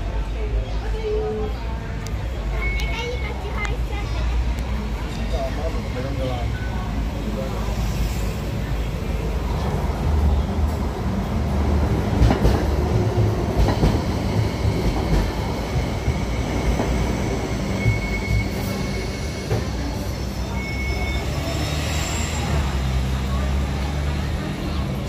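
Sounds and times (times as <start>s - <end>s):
train wheels rumbling: 3.0s - 25.0s.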